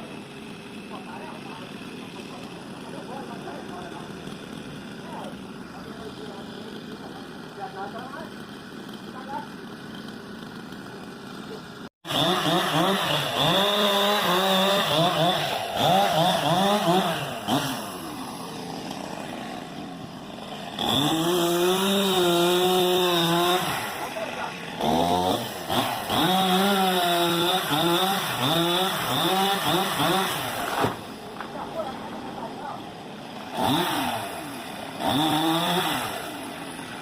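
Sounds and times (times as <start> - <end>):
chainsaw revving and cutting wood: 0.0 - 37.0.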